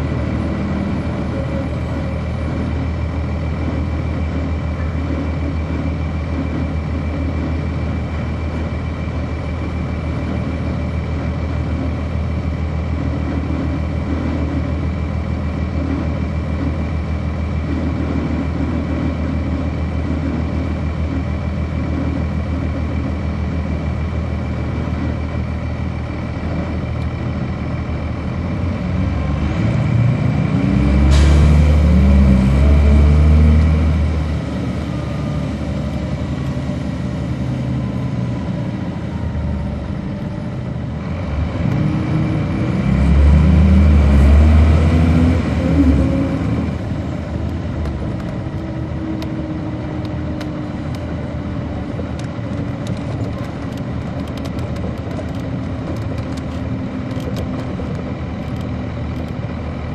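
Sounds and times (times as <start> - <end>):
diesel bus engine running: 0.0 - 59.9.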